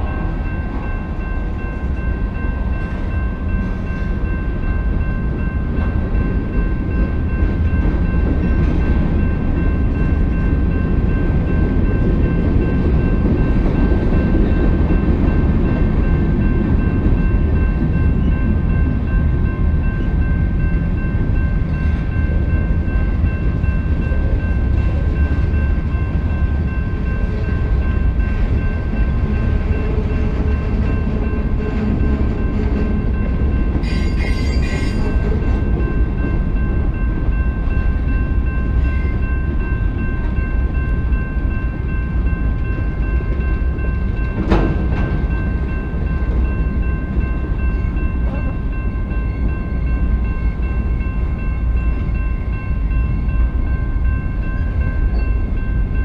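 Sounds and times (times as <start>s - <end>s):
crossing bell ringing: 0.0s - 56.0s
train wheels rumbling on rail: 0.0s - 56.0s.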